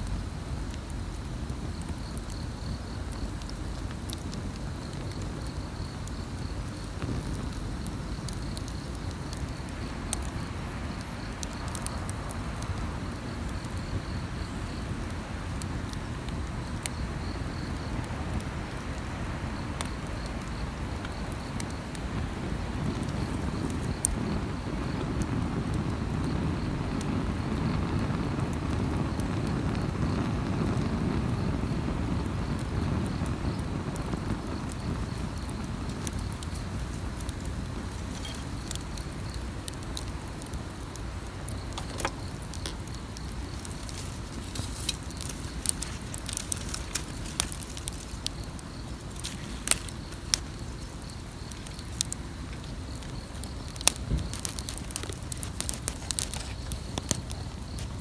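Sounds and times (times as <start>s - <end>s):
wood campfire crackling: 0.0s - 58.0s.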